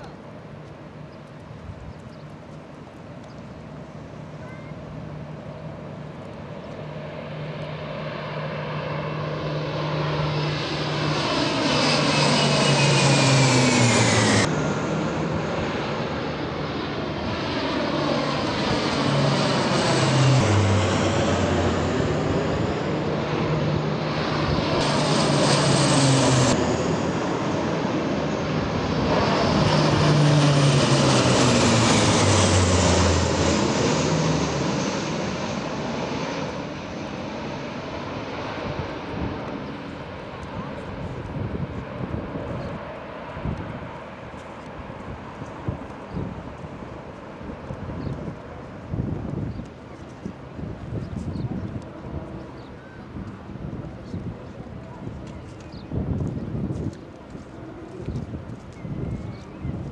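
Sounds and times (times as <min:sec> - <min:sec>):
propeller aircraft passing overhead: 0:00.0 - 0:59.9.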